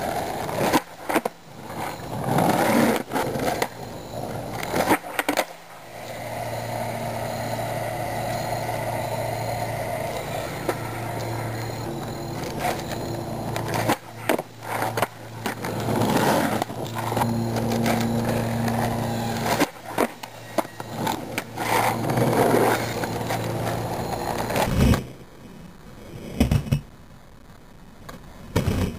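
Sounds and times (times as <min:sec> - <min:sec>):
skateboard clacking: 0:00.0 - 0:05.6, 0:06.2 - 0:24.7
skateboard wheels rolling on asphalt: 0:00.0 - 0:25.2.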